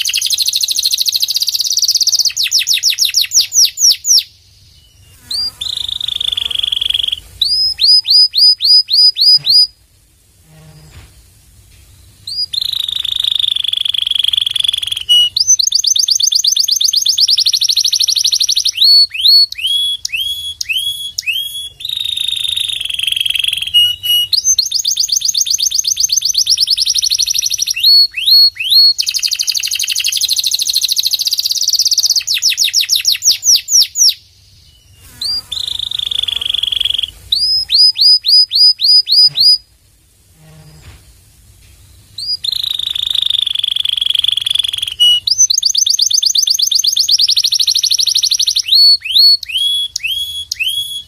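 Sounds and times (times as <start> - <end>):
canary singing: 0.0 - 9.8, 12.2 - 39.6, 42.2 - 51.0.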